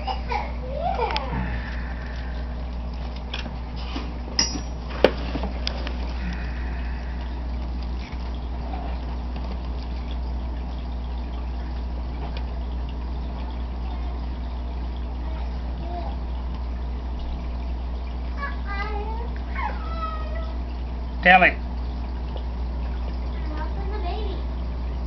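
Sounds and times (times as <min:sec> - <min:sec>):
aquarium filter hum: 0:00.0 - 0:25.0
water trickling: 0:00.0 - 0:25.0.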